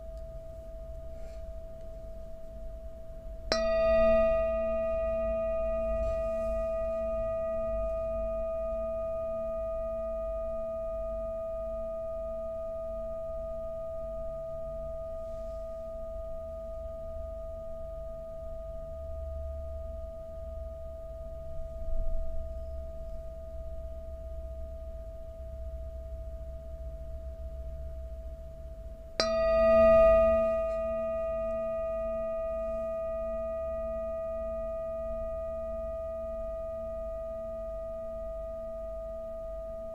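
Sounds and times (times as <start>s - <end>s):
metal singing bowl ringing: 0.0s - 39.9s.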